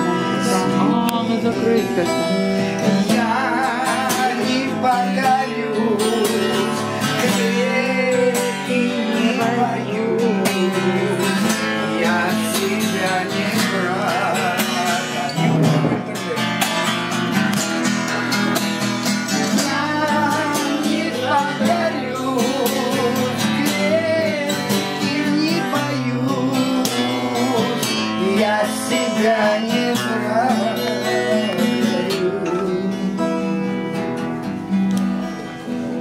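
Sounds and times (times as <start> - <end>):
person singing: 0.0 - 16.5, 19.4 - 33.8
acoustic guitar strumming: 0.0 - 36.0.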